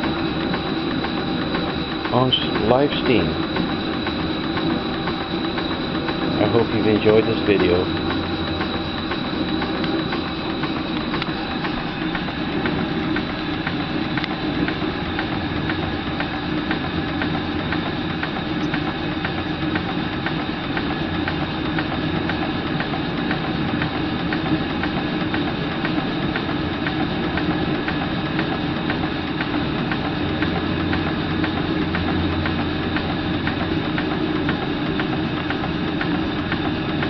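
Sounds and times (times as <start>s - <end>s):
steady hum: 0.0s - 37.0s
steam engine clicking: 0.0s - 37.0s.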